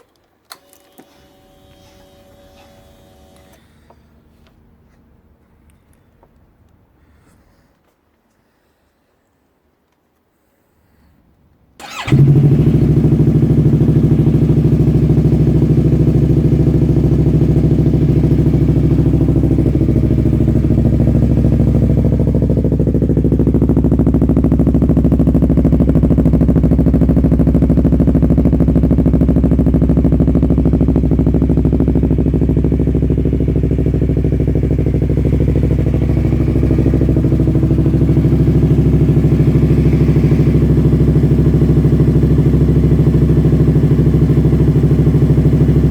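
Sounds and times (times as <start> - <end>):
motorcycle engine starting and idling: 0.0 - 4.6, 11.8 - 45.9.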